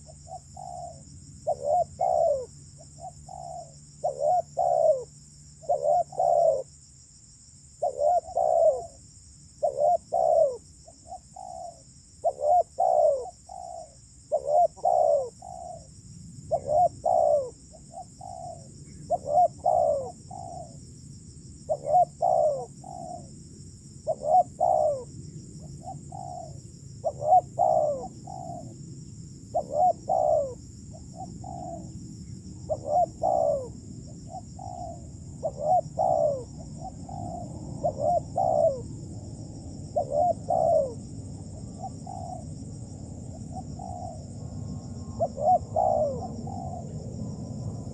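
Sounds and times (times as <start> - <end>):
dove cooing: 0.0 - 6.7, 7.8 - 9.0, 9.6 - 15.9, 16.5 - 20.8, 21.6 - 23.4, 24.0 - 28.8, 29.5 - 42.6, 43.2 - 47.9.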